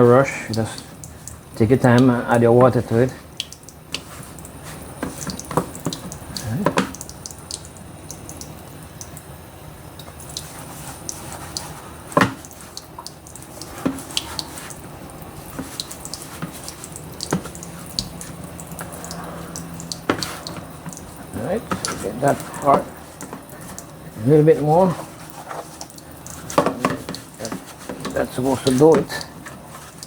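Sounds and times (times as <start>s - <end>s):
tap running thin stream: 0.0s - 30.0s.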